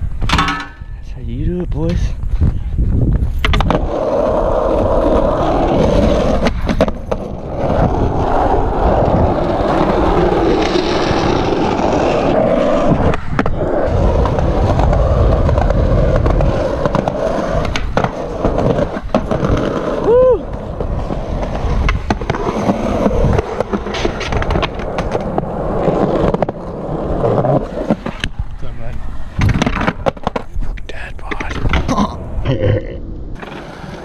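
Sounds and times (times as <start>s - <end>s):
skateboard wheels rolling on pavement: 1.8s - 32.4s, 33.0s - 34.0s
skateboard clacks: 3.4s - 28.6s, 29.4s - 32.1s.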